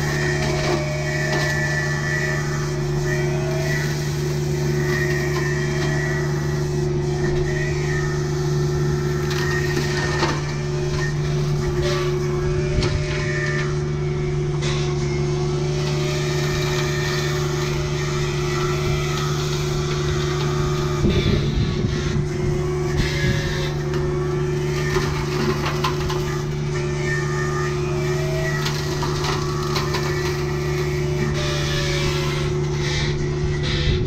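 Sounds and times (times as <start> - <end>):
excavator mechanical hum: 0.0 - 34.0.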